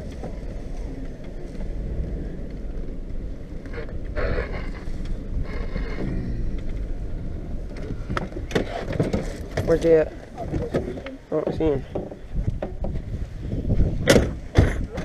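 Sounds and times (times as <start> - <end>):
truck engine and road rumble: 0.0 - 15.0
wind noise: 0.0 - 15.0.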